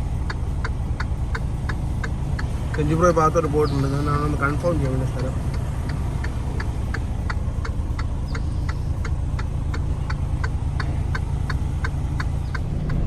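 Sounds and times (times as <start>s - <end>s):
indicator flasher ticking: 0.0s - 13.0s
truck engine hum: 0.0s - 13.0s.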